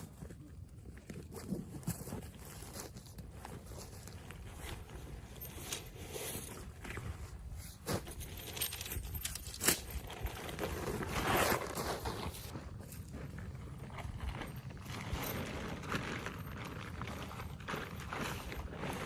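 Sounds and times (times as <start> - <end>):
camp gear rustling: 0.0 - 19.0.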